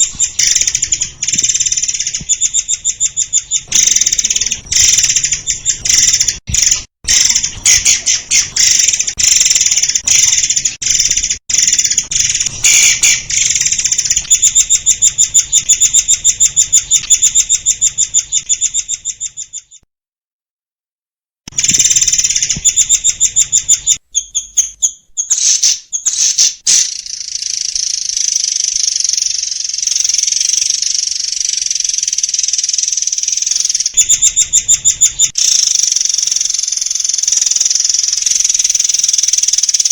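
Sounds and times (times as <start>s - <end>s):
bird singing fast trills: 0.0s - 19.8s, 21.6s - 39.9s.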